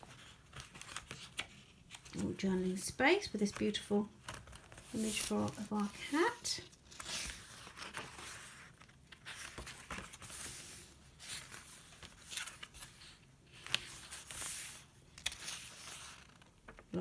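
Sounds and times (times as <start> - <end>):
paper pages rustling: 0.0 - 17.0.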